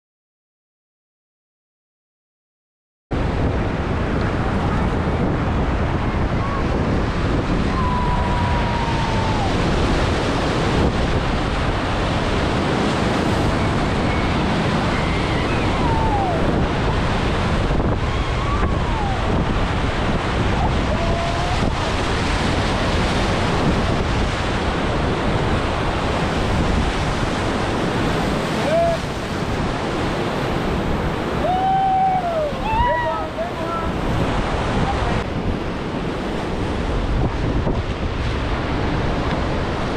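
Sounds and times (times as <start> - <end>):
whitewater rushing and crashing: 3.1 - 39.9
wind buffeting microphone: 3.1 - 39.9.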